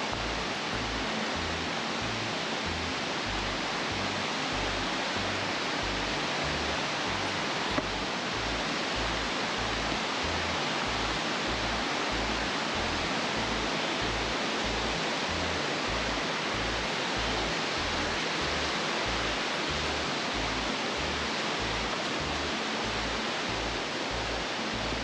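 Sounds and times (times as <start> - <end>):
music with pulsing bass: 0.0 - 25.0
steady rushing noise: 0.0 - 25.0.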